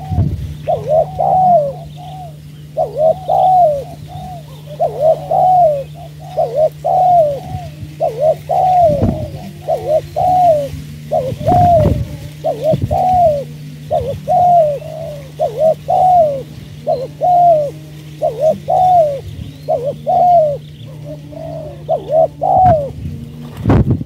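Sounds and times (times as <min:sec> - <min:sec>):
dove cooing: 0:00.0 - 0:24.0
faint low hum: 0:00.0 - 0:24.0.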